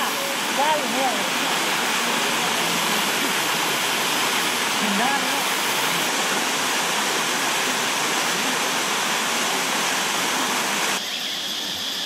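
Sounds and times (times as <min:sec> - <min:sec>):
steady hiss: 0:00.0 - 0:12.0
waterfall rushing: 0:00.0 - 0:12.0.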